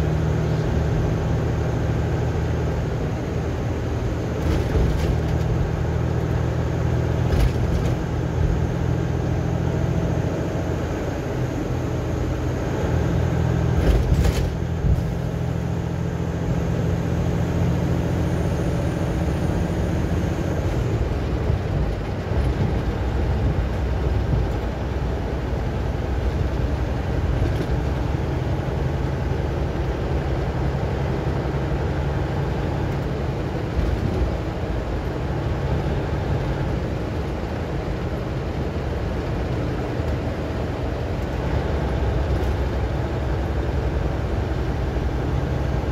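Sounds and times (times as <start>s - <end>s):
tyre and road noise: 0.0s - 45.9s
vehicle engine drone: 0.0s - 45.9s.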